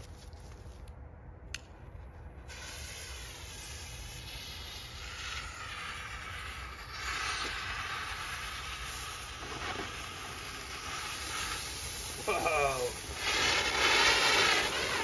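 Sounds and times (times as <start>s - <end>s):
firework fountain hissing: 2.4s - 15.0s.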